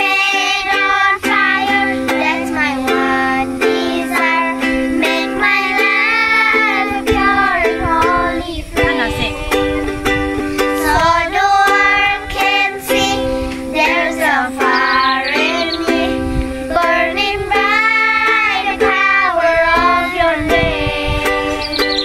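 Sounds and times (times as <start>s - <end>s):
child singing: 0.0s - 22.0s
strummed ukulele: 0.0s - 22.0s.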